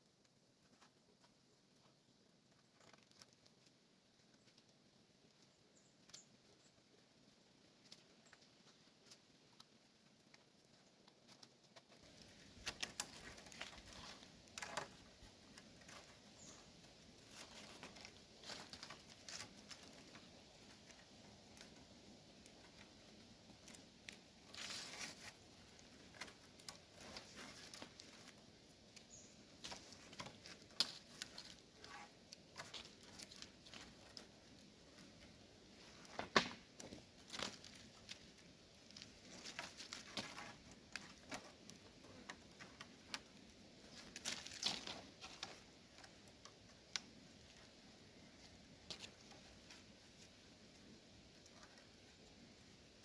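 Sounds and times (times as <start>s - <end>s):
light rustling: 7.8s - 52.3s.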